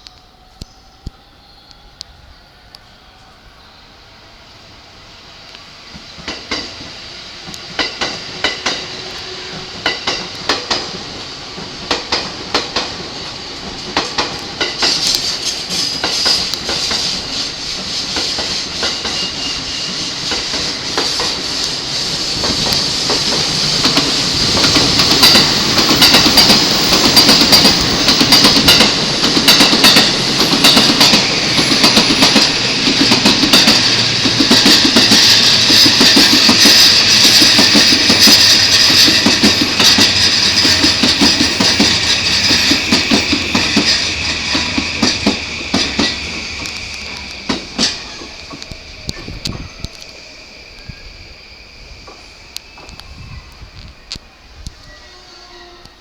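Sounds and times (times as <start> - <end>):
train rumble and hiss: 0.0 - 56.0
train wheels clicking over rail joints: 5.5 - 51.0.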